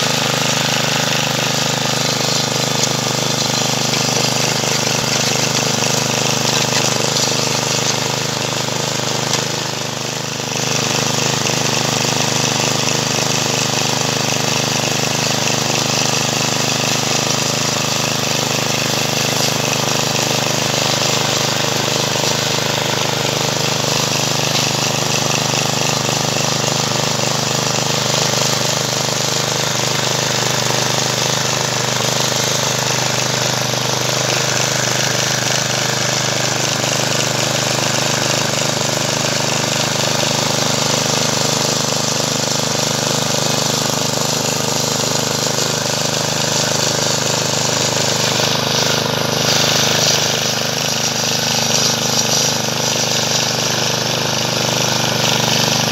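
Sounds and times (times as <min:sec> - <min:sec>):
tiller engine running: 0:00.0 - 0:55.9
tines digging through soil: 0:00.0 - 0:55.9.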